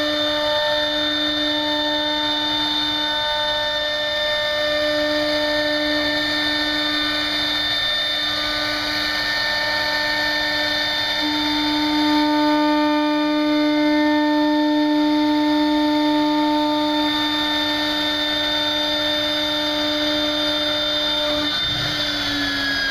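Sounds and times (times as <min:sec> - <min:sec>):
router spindle high whine: 0:00.0 - 0:22.9.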